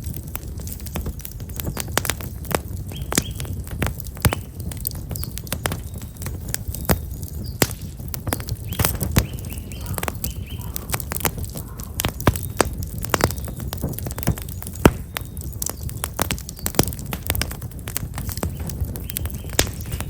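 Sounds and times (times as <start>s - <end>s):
firewood crackling and popping: 0.0s - 20.0s
small birds chirping: 0.2s - 20.0s.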